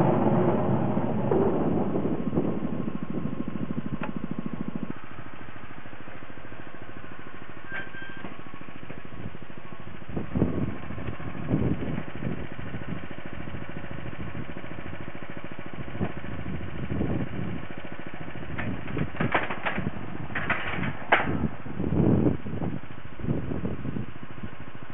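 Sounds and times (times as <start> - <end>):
small engine idling: 0.0 - 24.9.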